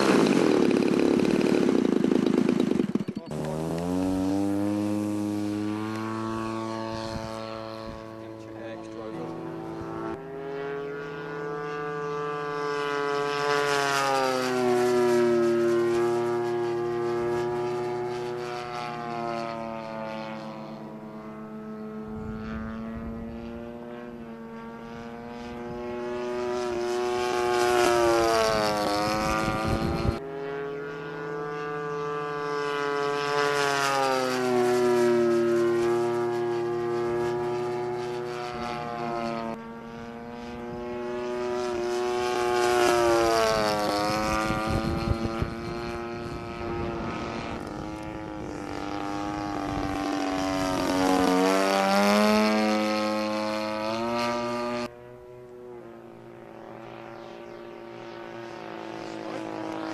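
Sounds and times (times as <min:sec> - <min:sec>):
model plane engine passing: 0:00.0 - 0:59.9.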